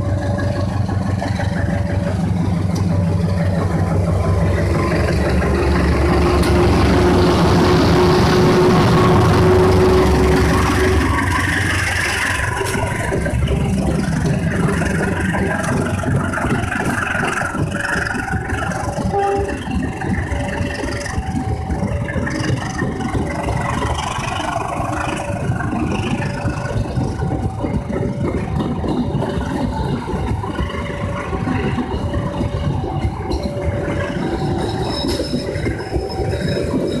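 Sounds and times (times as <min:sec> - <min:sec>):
train diesel engine rumbling: 0:00.0 - 0:37.0.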